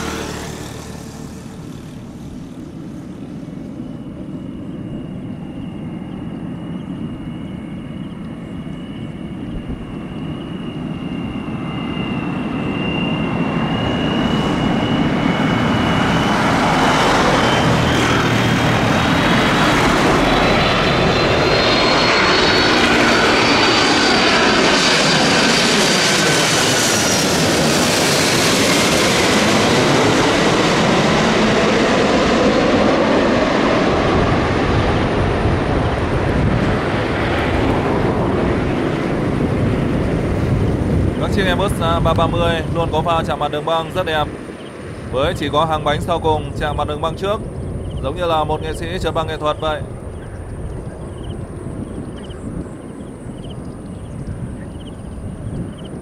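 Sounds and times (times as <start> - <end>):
high jet engine whine: 0.0 - 56.0
jet airliner engine roar: 0.0 - 56.0.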